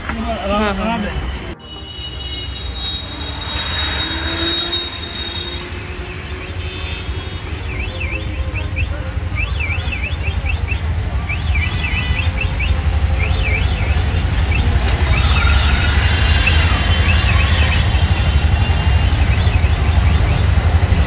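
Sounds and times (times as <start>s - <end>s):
auto-rickshaw engine rumble: 0.0s - 21.0s.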